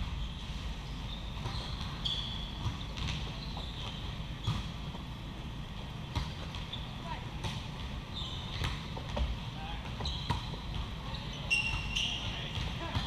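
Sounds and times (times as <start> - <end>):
sneakers squeaking on court floor: 0.0 - 5.2, 6.0 - 13.0.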